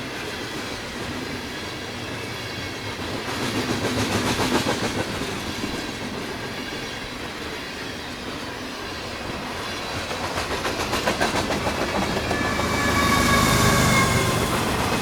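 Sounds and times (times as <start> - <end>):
train wheels clicking over rail joints: 2.4 - 15.0.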